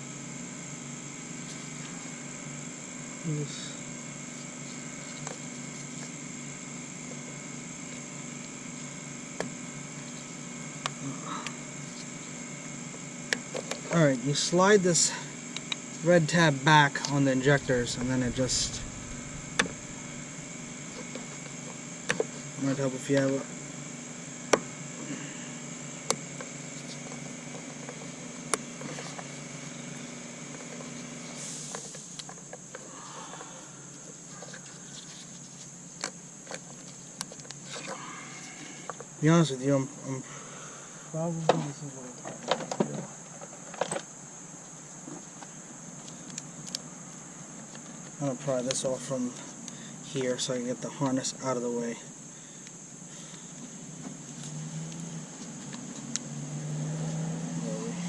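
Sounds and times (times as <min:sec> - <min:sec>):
electrical hum and hiss: 0:00.0 - 0:58.0.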